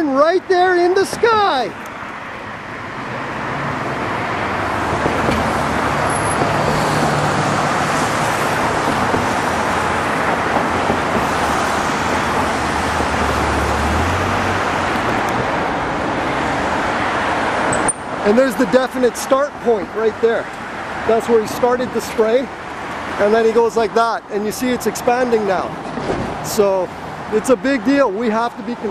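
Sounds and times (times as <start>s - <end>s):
road traffic: 0.0s - 28.9s.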